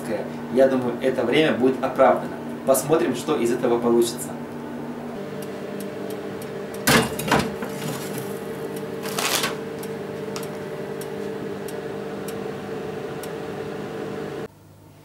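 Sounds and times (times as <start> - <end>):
oven humming: 0.0 - 15.0.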